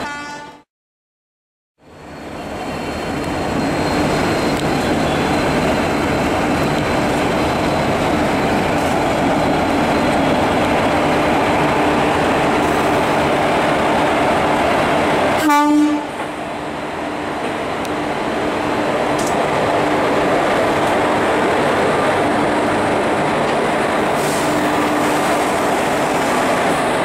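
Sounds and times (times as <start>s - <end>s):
train rumbling on rails: 1.8s - 27.0s.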